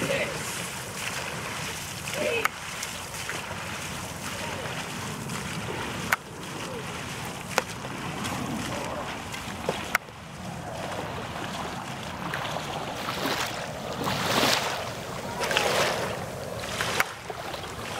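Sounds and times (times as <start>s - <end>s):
paddles splashing in water: 0.0s - 17.9s
wind noise on microphone: 3.0s - 17.9s.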